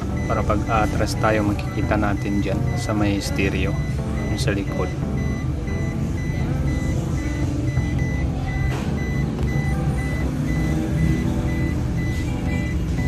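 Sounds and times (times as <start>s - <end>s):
high electronic beep: 0.0s - 13.0s.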